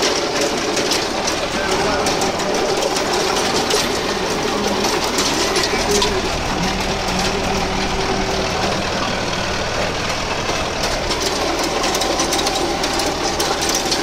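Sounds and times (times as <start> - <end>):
rotavator tilling soil: 0.0 - 14.0
tractor diesel engine under load: 0.0 - 14.0.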